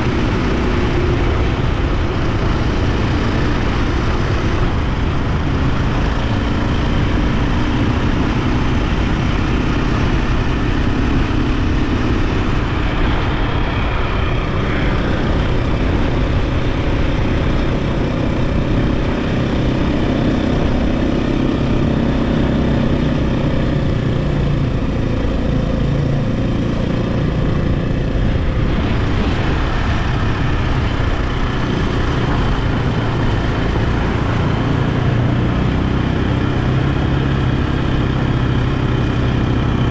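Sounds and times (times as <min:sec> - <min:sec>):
dirt bike engine running: 0:00.0 - 0:39.9
riding noise: 0:00.0 - 0:39.9.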